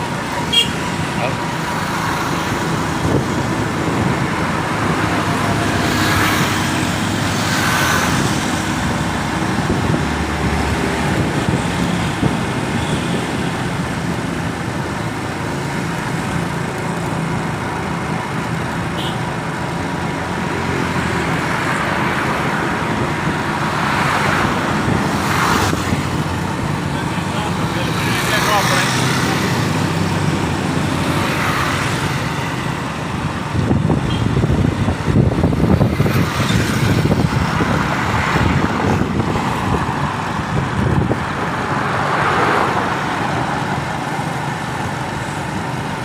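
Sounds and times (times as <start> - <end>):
traffic engines running: 0.0 - 46.0
vehicles passing by: 0.0 - 46.0.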